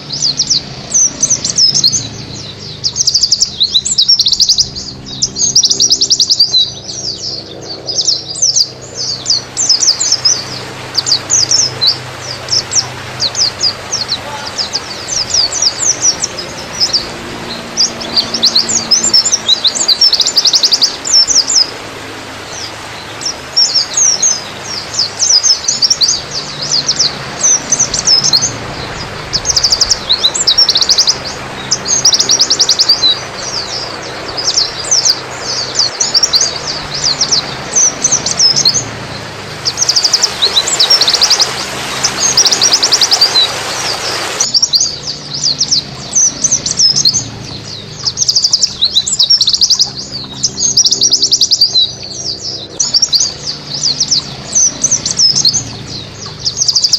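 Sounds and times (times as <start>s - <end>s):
bird twittering trills: 0.0s - 56.9s
steady background hiss: 0.0s - 56.9s.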